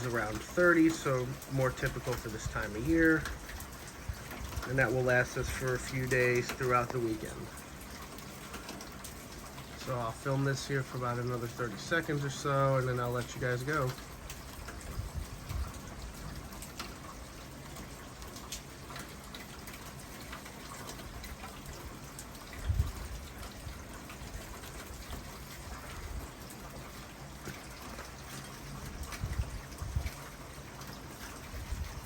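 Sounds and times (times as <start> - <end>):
raindrop ticks: 0.0 - 32.0
steady rain: 0.0 - 32.0.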